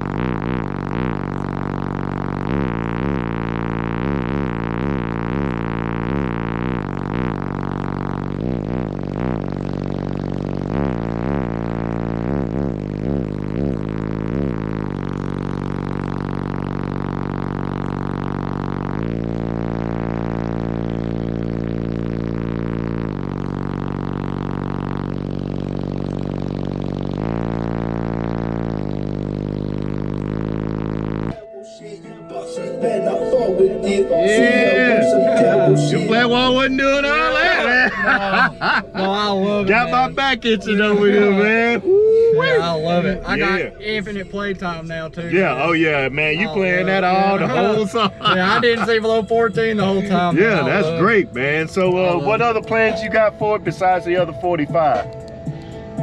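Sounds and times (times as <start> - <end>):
bass-heavy song through car subwoofers: 0.0 - 56.0.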